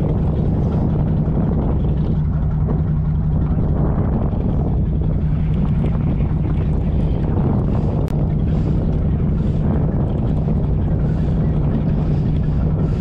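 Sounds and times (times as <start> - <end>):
boat engine running: 0.0 - 13.0
wind and sea rushing: 0.0 - 13.0.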